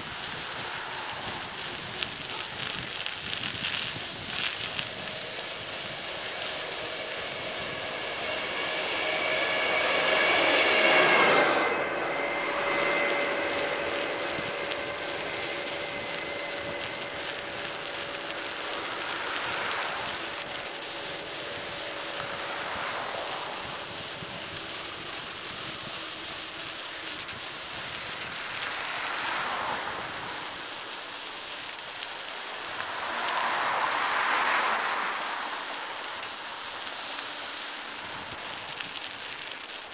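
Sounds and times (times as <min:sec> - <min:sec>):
rising whine: 0:00.0 - 0:39.4
wind noise on microphone: 0:00.0 - 0:39.7
bicycle road noise: 0:00.0 - 0:39.9.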